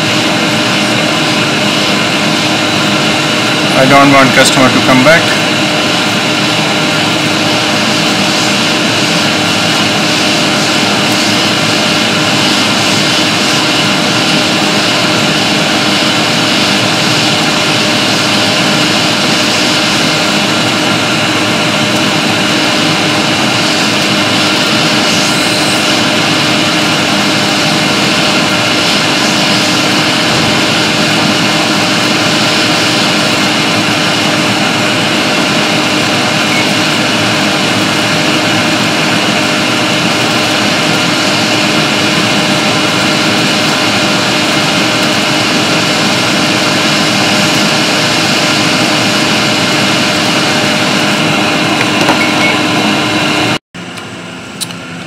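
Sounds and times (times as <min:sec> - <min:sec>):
hot air station hissing: 0:00.0 - 0:53.6.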